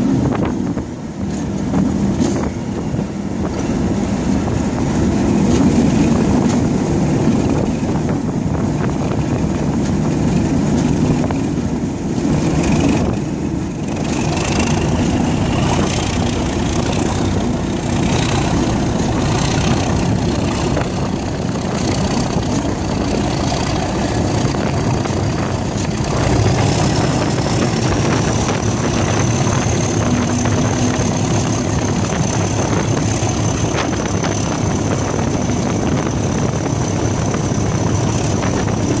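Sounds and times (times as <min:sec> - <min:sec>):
diesel locomotive engine rumble: 0:00.0 - 0:39.0.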